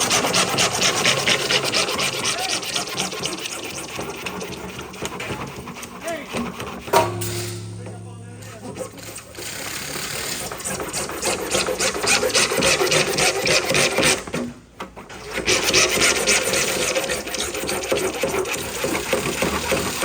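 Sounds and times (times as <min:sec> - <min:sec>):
hole saw cutting wood: 0:00.0 - 0:07.1, 0:08.8 - 0:14.4, 0:15.1 - 0:20.0.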